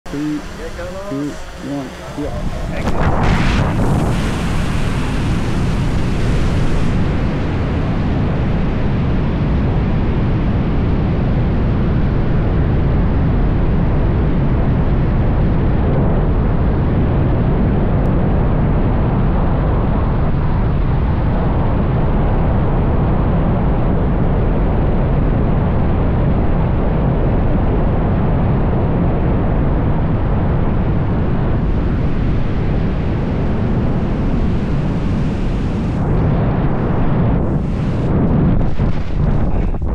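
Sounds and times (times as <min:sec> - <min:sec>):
wind rushing over microphone: 0:00.1 - 0:39.9.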